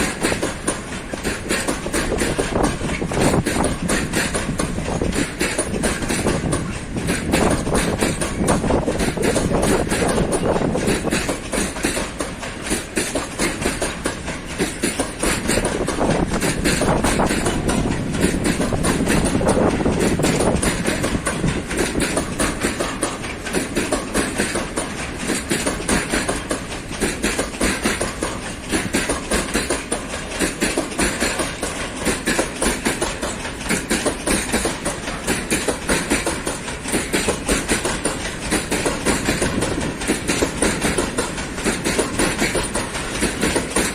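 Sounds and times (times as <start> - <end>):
train wheels clattering over rail joints: 0.0 - 43.9.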